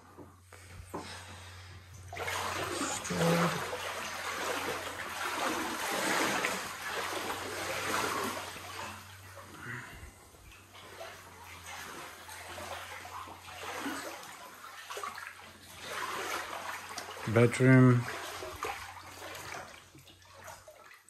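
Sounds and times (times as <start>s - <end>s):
wading through deep water: 1.0s - 21.0s.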